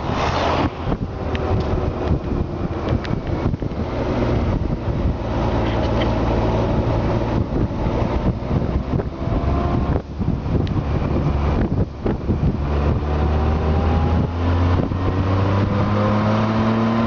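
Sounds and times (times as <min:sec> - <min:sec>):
wind buffeting microphone: 0:00.0 - 0:17.0
motorcycle engine running: 0:00.9 - 0:16.1.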